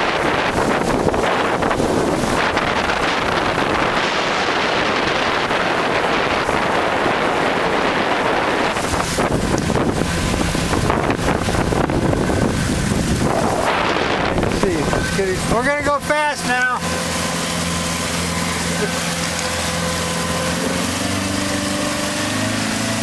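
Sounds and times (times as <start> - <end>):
boat engine rumble: 0.0 - 23.0
rushing water: 0.0 - 23.0
wind buffeting microphone: 0.0 - 23.0.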